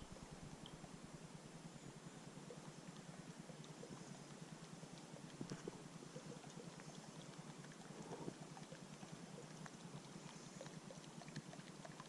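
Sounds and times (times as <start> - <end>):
faint ticks: 0.0 - 0.9, 2.4 - 12.0.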